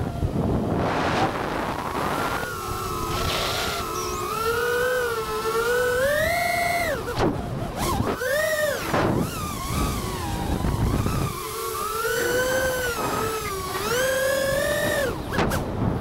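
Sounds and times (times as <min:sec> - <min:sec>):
wind rush: 0:00.0 - 0:08.2, 0:08.8 - 0:16.0
quadcopter motors whining: 0:00.0 - 0:16.0.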